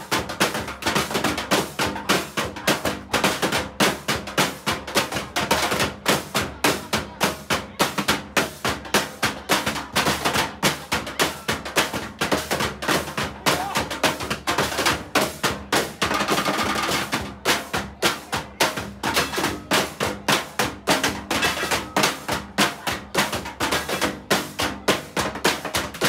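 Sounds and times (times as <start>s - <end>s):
drumming on plastic and metal: 0.0s - 26.0s.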